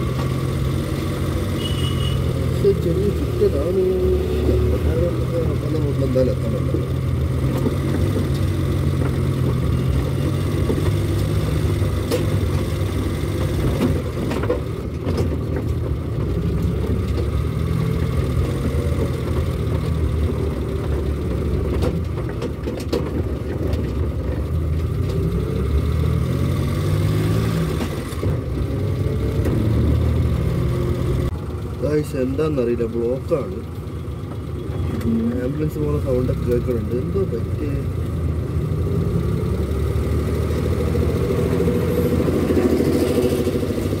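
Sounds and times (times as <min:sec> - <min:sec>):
car engine running: 0:00.0 - 0:44.0
tyre and road noise: 0:00.0 - 0:44.0.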